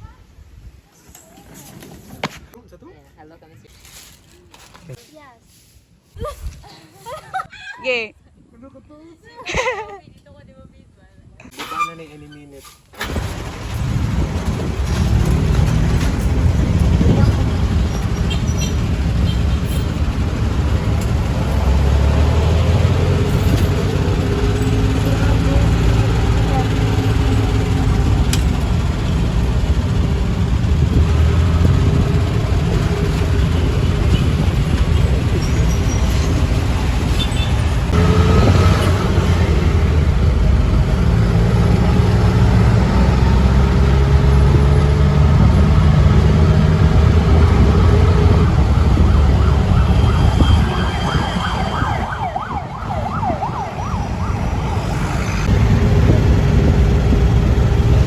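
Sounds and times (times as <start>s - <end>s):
vehicle engine and road rumble: 11.5s - 58.0s.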